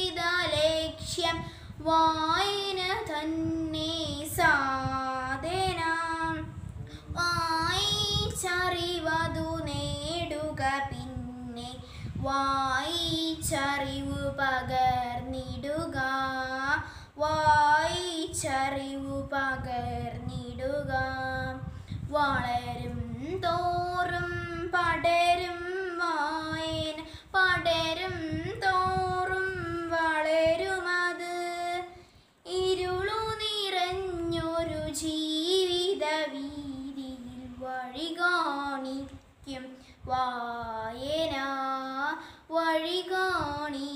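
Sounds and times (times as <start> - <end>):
girl singing solo: 0.0 - 43.9.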